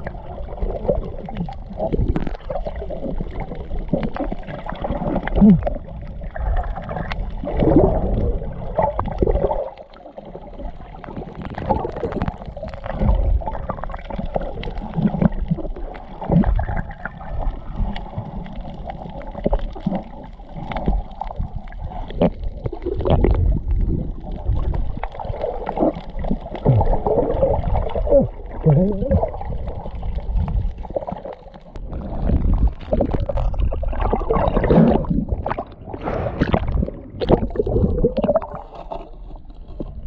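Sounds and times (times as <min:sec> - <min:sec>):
underwater water gurgling and sloshing: 0:00.0 - 0:40.0.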